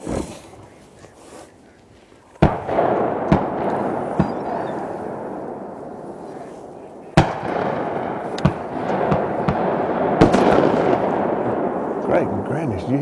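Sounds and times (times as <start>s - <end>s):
distant shotgun shots echoing: 2.4s - 13.0s.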